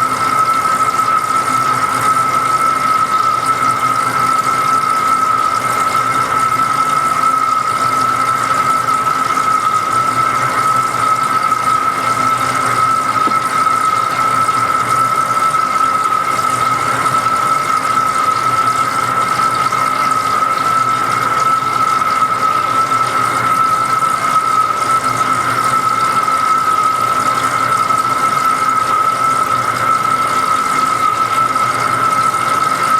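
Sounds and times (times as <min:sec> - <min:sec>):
lathe running with high squeal: 0:00.0 - 0:32.9.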